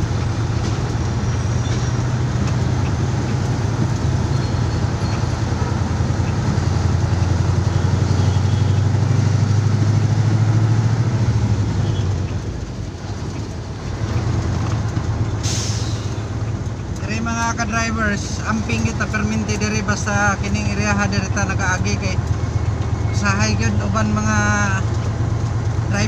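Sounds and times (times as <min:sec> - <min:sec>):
road noise: 0:00.0 - 0:26.0
truck diesel engine drone: 0:00.0 - 0:26.0.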